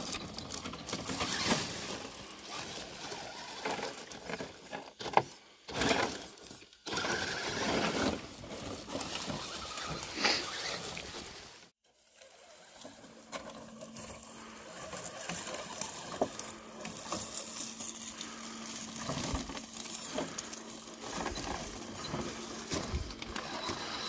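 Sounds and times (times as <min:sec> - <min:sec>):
dry leaves crunching under tyres: 0:00.0 - 0:24.0.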